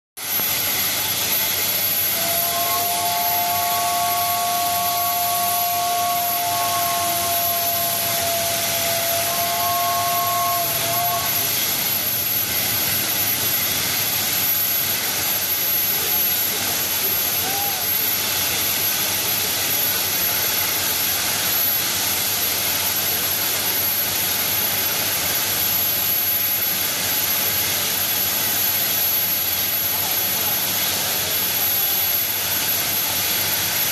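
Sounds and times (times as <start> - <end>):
steam venting hiss: 0.2 - 33.9.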